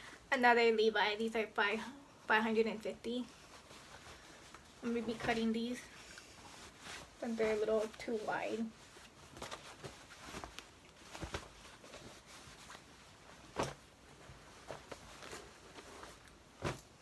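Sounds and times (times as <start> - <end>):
cloth rustling: 2.6 - 17.0.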